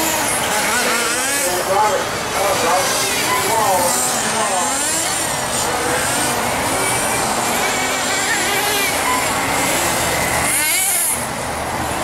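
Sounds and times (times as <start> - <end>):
rc car engines whining: 0.0 - 12.0.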